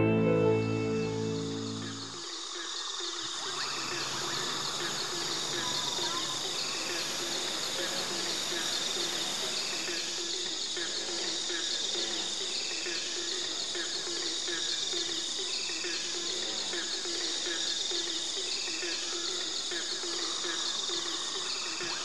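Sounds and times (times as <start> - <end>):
insects droning high-pitched: 0.6 - 22.0.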